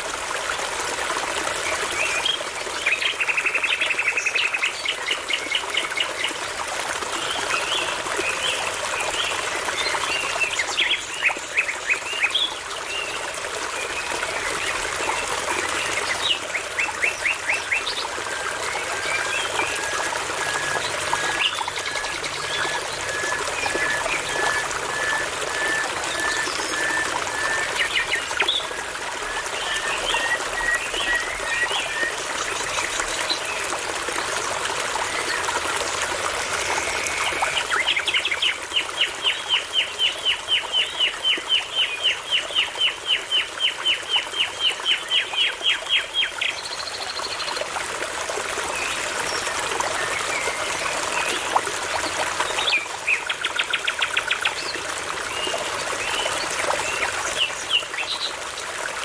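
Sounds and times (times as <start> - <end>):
babbling brook: 0.0 - 59.0.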